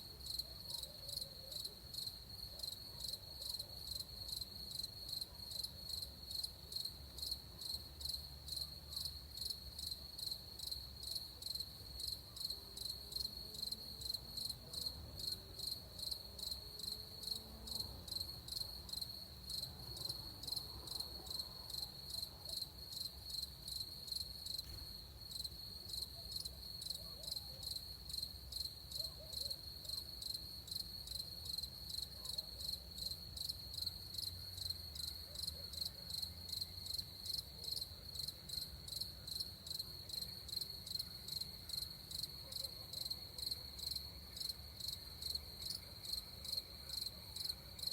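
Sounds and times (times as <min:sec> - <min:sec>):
crickets chirping: 0:00.0 - 0:47.9.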